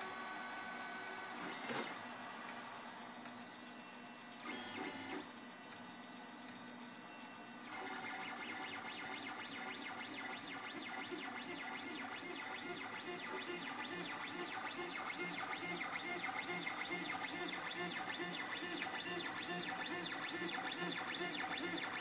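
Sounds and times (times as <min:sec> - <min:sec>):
printer stepper motors whining: 0:00.0 - 0:22.0.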